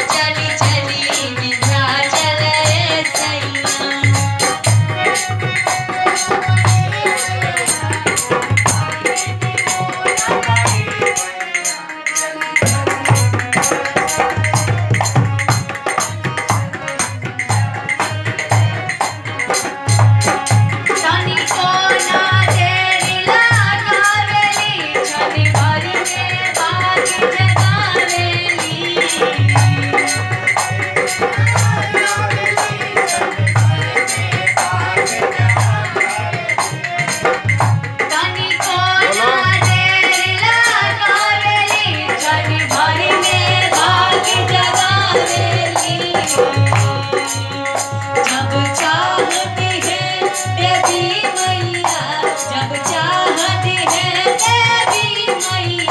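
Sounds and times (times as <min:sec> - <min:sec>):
music with steady drum beat: 0:00.0 - 0:55.9
rattling percussion: 0:00.0 - 0:55.9
woman singing into a microphone: 0:00.0 - 0:55.9.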